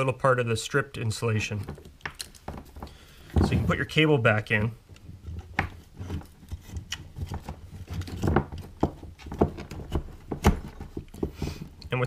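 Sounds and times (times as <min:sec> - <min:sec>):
cable rubbing: 0:01.3 - 0:11.6.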